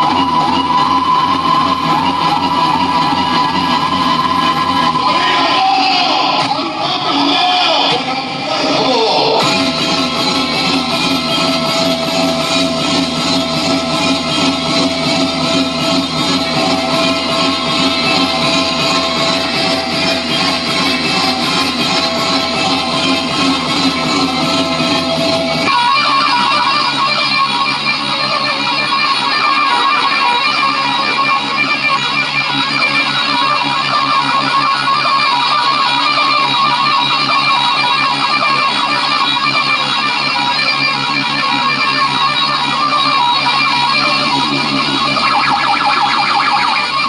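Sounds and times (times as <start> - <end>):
music with plucked guitar-like lead: 0.0 - 47.0.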